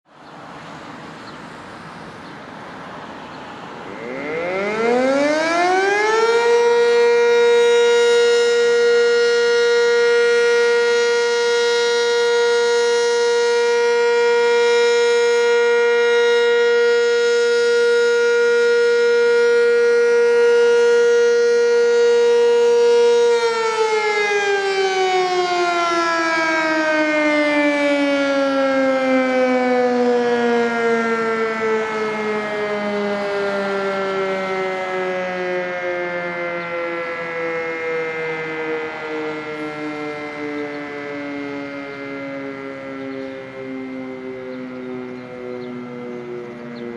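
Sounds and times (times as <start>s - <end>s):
fire siren winding up and down: 3.7s - 46.9s.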